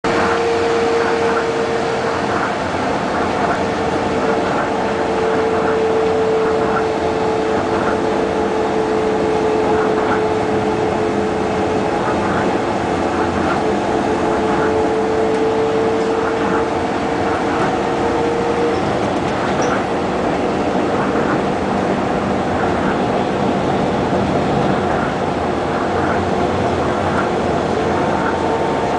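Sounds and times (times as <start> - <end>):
vehicle engine rumbling: 0.0 - 28.9
vehicle whine: 0.0 - 28.9.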